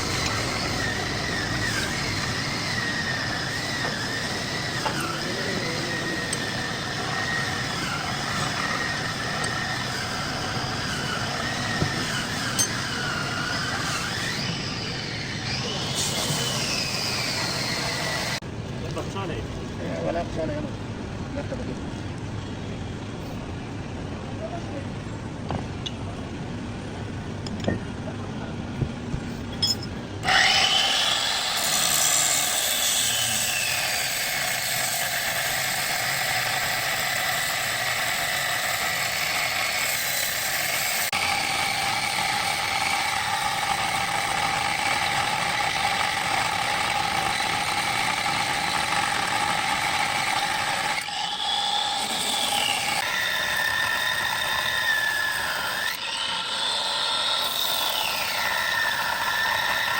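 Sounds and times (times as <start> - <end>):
metal lathe whining: 0.0 - 18.4, 29.6 - 59.9.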